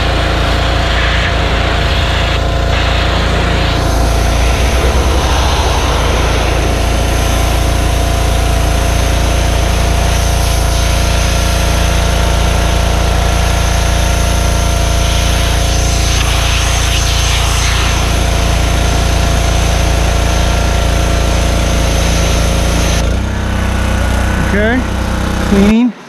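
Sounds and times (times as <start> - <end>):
high-pressure water spray hissing: 0.0 - 23.1
pressure washer engine running: 0.0 - 26.0.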